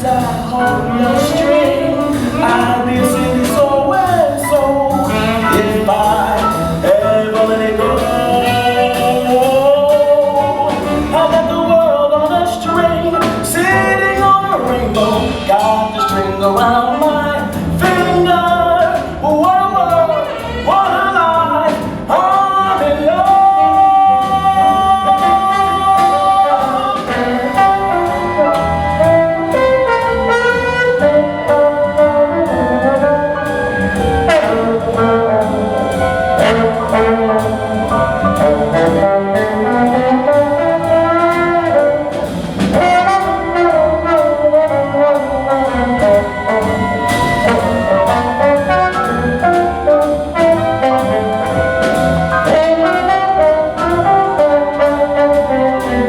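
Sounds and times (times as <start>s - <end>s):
jazz band playing: 0.0s - 56.0s.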